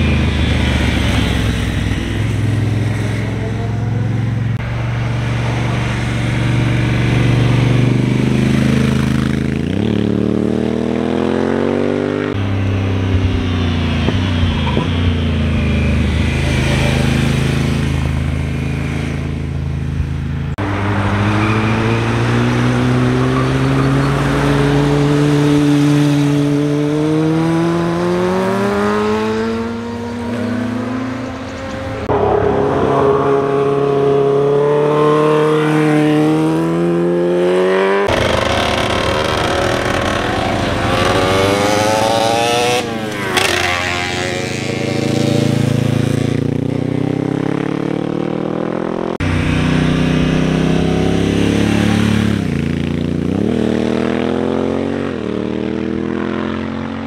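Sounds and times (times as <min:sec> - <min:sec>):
motorcycle engines accelerating: 0:00.0 - 0:57.0
motorcycle passing close: 0:00.0 - 0:57.0.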